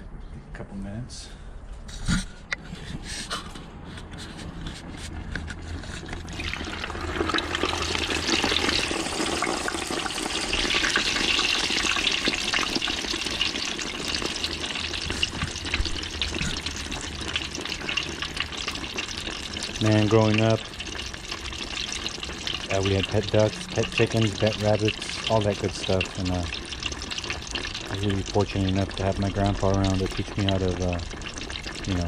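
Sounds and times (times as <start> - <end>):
hot oil sizzling and crackling: 4.4 - 32.0.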